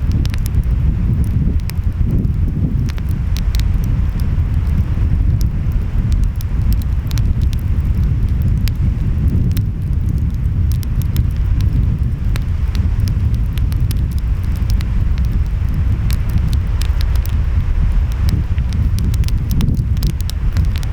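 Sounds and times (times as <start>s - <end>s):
wind: 0.0s - 20.9s
wood fire crackling: 0.0s - 20.9s.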